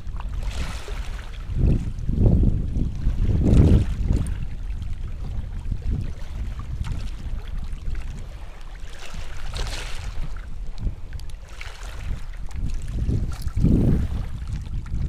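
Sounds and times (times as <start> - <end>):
shallow sea water washing: 0.0 - 15.0
wind rumbling on microphone: 0.0 - 15.0.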